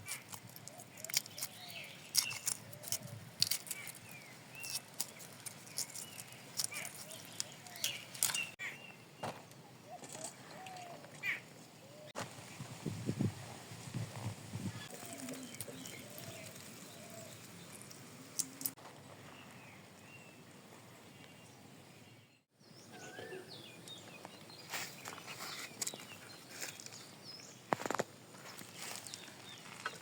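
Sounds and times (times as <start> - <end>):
birds chirping: 0.1 - 12.1, 14.7 - 30.0.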